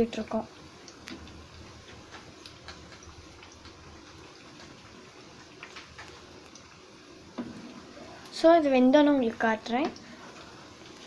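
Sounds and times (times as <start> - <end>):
food sizzling in hot oil: 0.0 - 11.0
oil crackles: 0.0 - 11.0.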